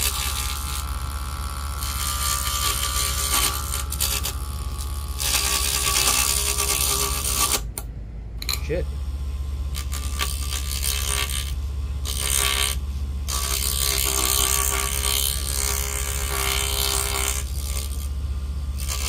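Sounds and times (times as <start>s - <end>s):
chisel scraping spinning wood: 0.0s - 7.6s, 9.7s - 19.0s
lathe motor humming: 0.0s - 7.6s, 8.4s - 19.0s.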